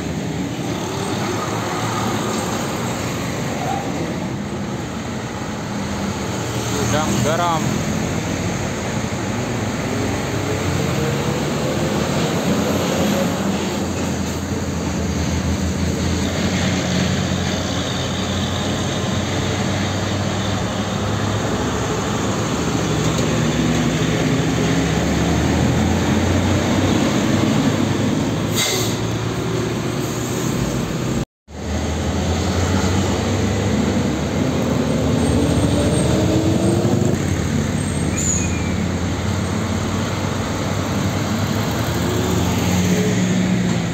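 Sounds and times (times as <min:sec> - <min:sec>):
diesel truck engines accelerating: 0:00.0 - 0:43.9.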